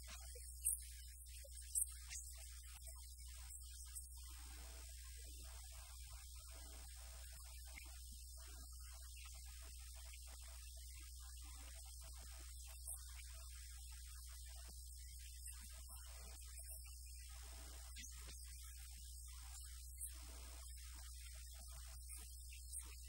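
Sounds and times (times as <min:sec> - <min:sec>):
low mains hum with hiss: 0:00.0 - 0:23.0.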